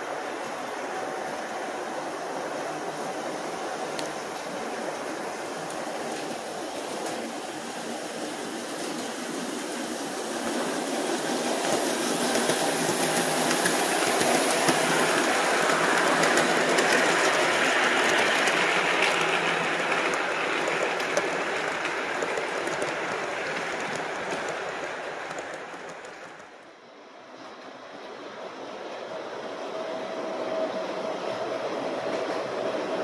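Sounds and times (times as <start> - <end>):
model train cars rumbling: 0.0 - 26.8.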